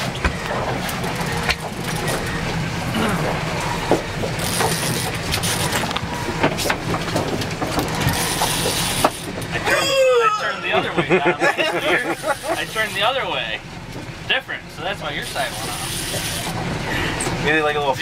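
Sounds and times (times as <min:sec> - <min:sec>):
boat engine running: 0:00.0 - 0:18.0
water noise: 0:00.0 - 0:18.0
wind: 0:00.0 - 0:18.0.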